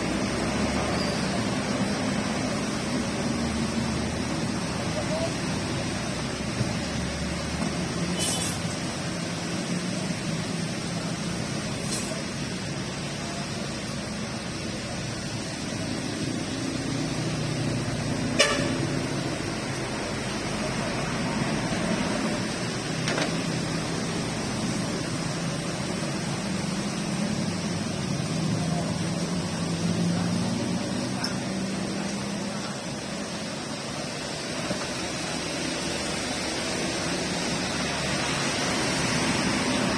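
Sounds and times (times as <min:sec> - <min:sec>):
road traffic passing: 0:00.0 - 0:39.9
steady rain: 0:00.0 - 0:39.9.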